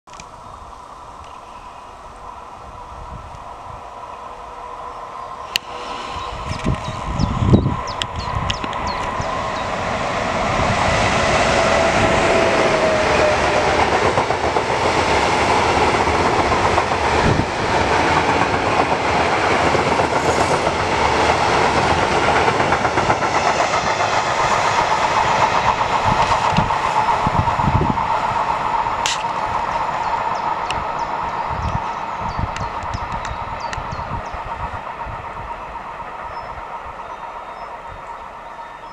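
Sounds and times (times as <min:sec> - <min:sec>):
train wheels on rails: 0:00.1 - 0:38.9.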